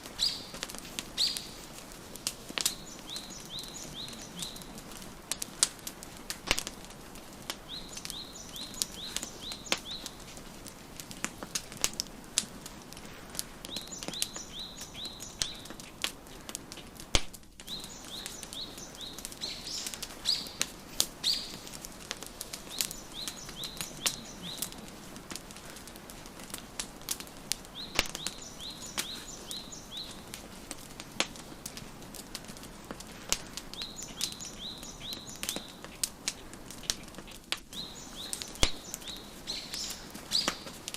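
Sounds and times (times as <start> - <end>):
wood fire crackling: 0.0 - 40.9
songbird chirping: 0.1 - 10.8, 13.6 - 16.0, 17.6 - 31.8, 33.6 - 40.9.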